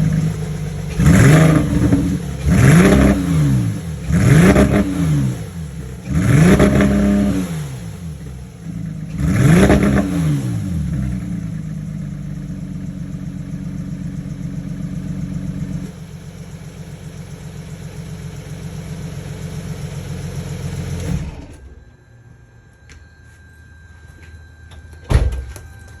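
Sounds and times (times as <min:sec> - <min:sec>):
car engine misfiring and revving: 0:00.0 - 0:21.8.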